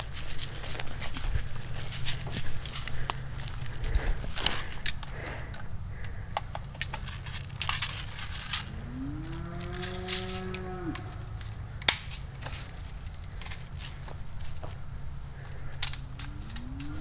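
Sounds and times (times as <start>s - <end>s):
drawn-out low call: 0.0s - 17.0s
footsteps crunching on twigs and leaves: 0.0s - 17.0s.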